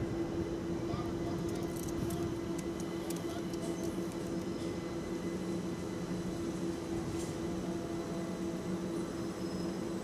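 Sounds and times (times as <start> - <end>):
electric train humming and rumbling: 0.0 - 10.0.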